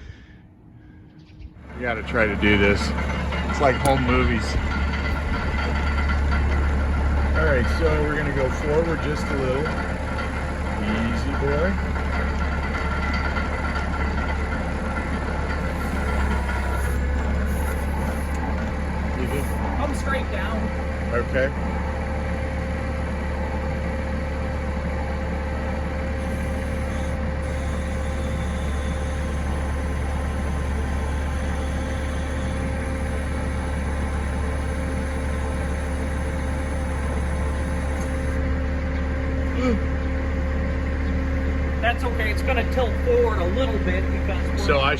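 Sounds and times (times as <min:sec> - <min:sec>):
forklift engine running: 0:01.6 - 0:44.9.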